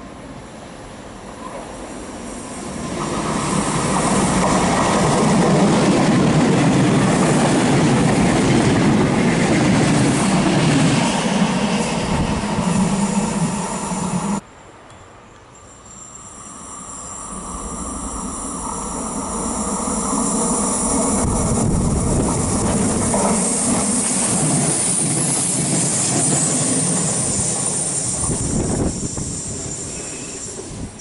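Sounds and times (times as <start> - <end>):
train wheels rumbling on rail: 0.3 - 14.4, 16.4 - 31.0.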